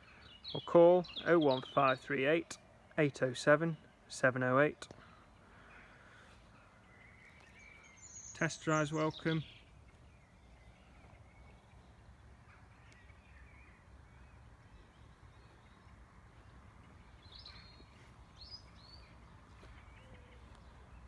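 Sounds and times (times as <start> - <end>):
distant bird calls: 0.0 - 21.0.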